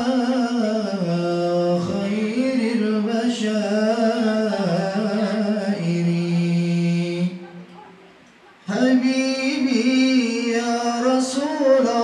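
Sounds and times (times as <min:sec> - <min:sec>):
man singing into a microphone: 0:00.0 - 0:07.5, 0:08.6 - 0:12.0.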